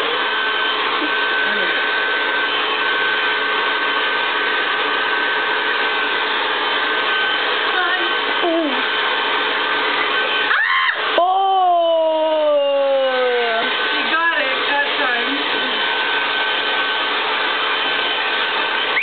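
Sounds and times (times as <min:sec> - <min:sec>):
blow dryer running: 0:00.0 - 0:19.0.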